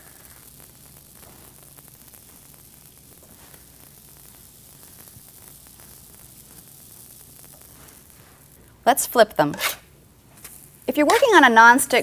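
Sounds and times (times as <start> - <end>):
batter sizzling on a griddle: 0.0 - 12.0.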